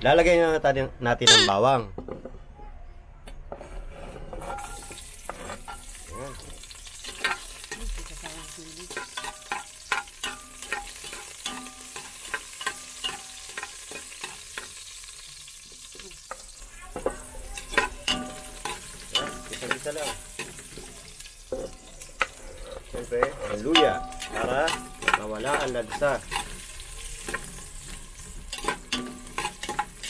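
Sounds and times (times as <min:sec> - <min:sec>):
spatula scraping pan: 0:03.5 - 0:06.0, 0:07.0 - 0:14.9, 0:16.3 - 0:30.0
garlic sizzling in hot oil: 0:04.4 - 0:30.0.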